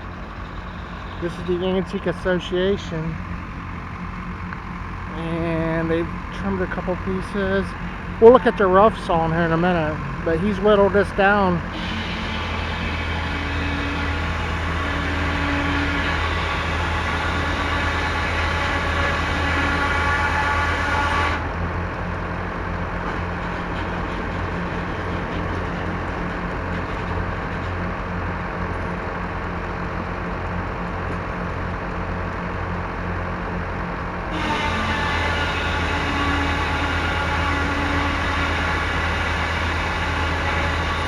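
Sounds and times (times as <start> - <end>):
engine humming: 0.0 - 41.0
high-pitched mechanical noise: 0.0 - 41.0.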